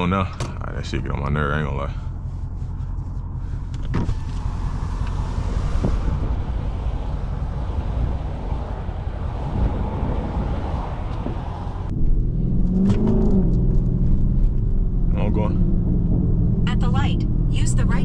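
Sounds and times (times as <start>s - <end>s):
car exhaust rumbling: 0.0s - 18.0s
road noise: 0.0s - 18.0s.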